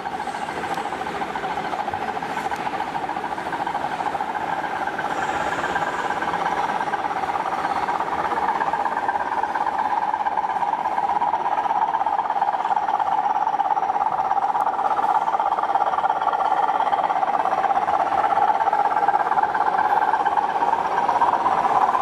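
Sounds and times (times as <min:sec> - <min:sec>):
model locomotives whirring: 0:00.0 - 0:22.0.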